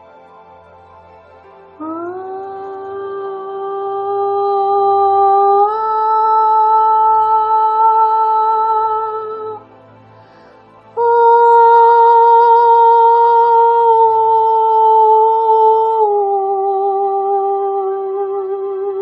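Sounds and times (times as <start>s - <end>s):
woman singing long held notes: 1.8s - 9.8s, 11.0s - 19.0s.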